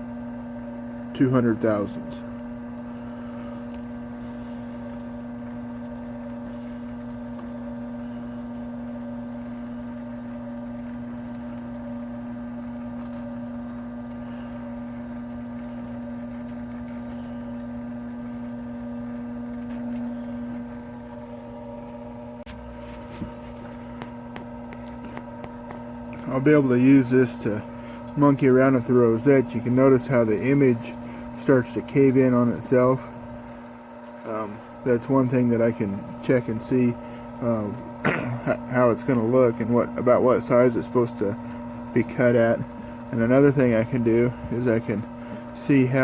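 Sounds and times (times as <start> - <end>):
lathe humming: 0.0 - 46.0.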